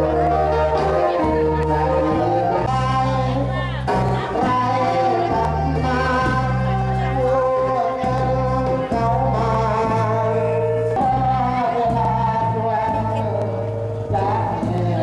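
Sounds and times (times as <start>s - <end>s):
sung melody with instrumental music: 0.0s - 15.0s.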